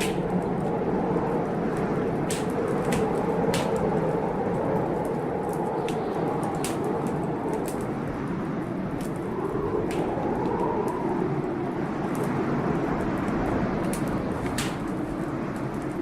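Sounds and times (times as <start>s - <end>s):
rain rushing: 0.0s - 16.0s
wood fire crackling and popping: 0.0s - 16.0s.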